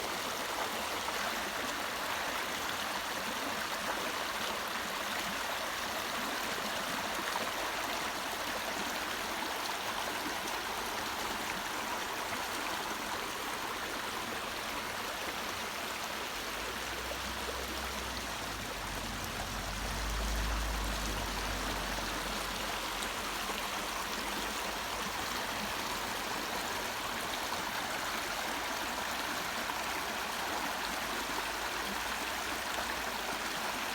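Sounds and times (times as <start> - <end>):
brook babbling: 0.0 - 33.9.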